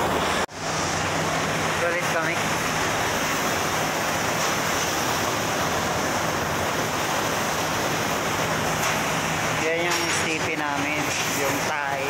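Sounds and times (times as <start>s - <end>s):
engine-room machinery roar: 0.0s - 12.0s.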